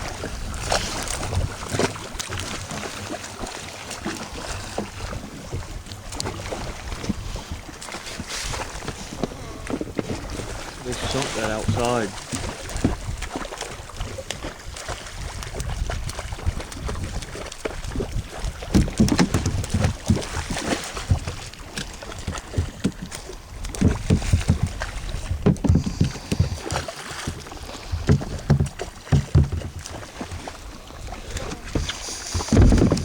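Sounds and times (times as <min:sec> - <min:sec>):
knocks and thuds on boat: 0:00.0 - 0:33.0
water and motion noise: 0:00.0 - 0:33.0.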